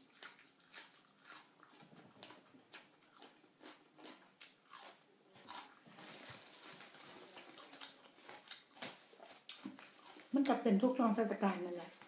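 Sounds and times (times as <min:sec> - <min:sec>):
person chewing and mouth smacks: 0:00.0 - 0:10.4.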